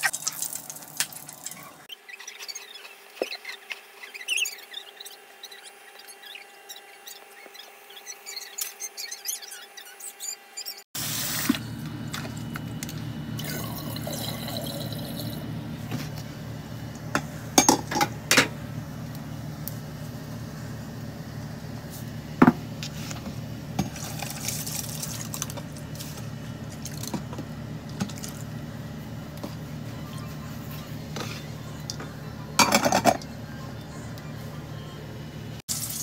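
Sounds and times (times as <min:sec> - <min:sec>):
steady low hum: 0:02.7 - 0:35.7.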